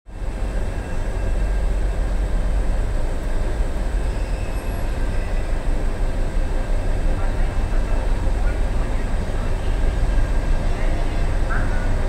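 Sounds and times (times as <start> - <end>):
train low rumble: 0.1 - 12.0.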